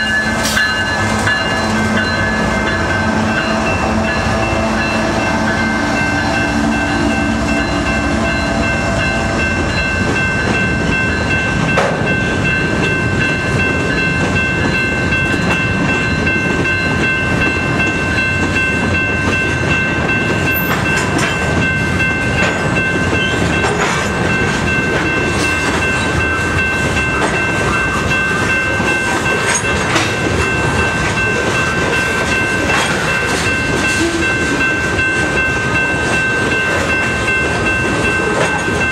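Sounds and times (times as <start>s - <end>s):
crossing signal bell ringing: 0.0s - 38.9s
locomotive pitched tone: 0.0s - 38.9s
train wheels rumbling and clacking: 0.0s - 38.9s.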